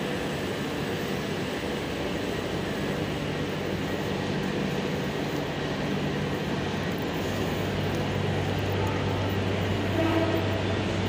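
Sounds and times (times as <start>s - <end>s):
metro train pulling in: 0.0s - 11.0s.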